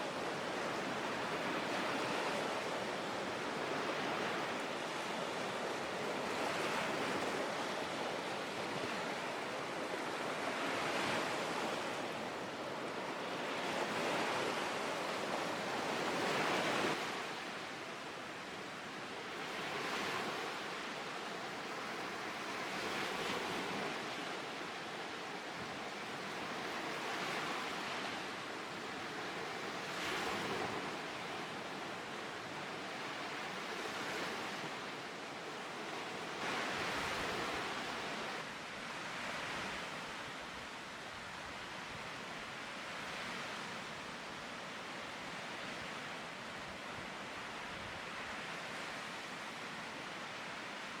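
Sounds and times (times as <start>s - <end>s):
small waves washing onto shore: 0.0s - 51.0s.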